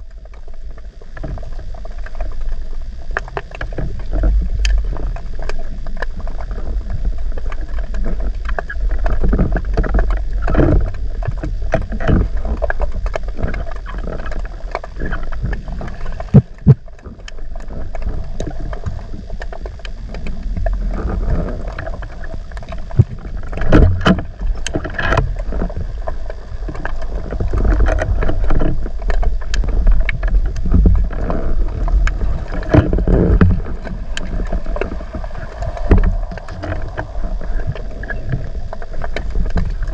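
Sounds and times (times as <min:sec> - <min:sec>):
clicks and crackles: 0:00.0 - 0:39.9
underwater rush of water: 0:00.0 - 0:39.9.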